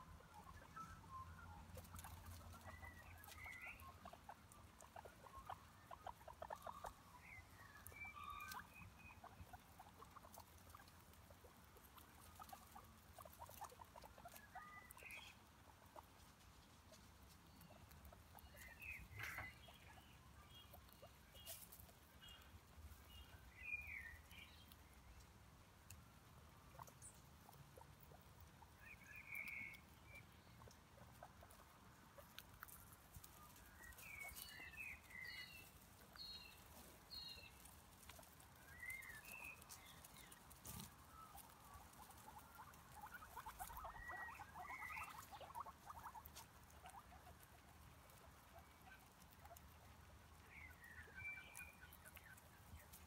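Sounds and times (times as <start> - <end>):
guinea pig chirps: 0.0 - 53.0.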